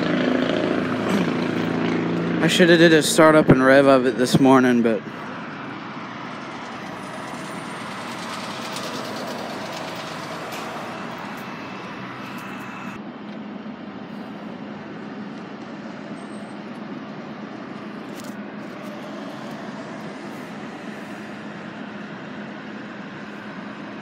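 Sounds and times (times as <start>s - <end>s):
outdoor traffic noise: 0.0s - 24.0s.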